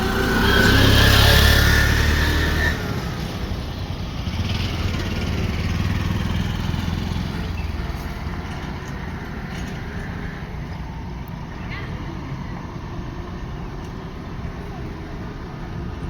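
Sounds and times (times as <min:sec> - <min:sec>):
diesel machinery engine running: 0:00.0 - 0:16.0.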